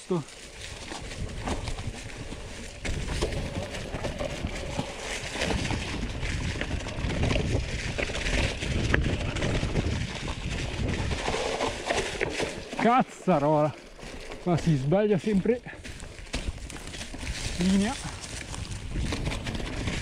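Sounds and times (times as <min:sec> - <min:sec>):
bike clicking and rattling: 0:00.0 - 0:20.0
tyres crunching through dry leaves: 0:00.0 - 0:20.0.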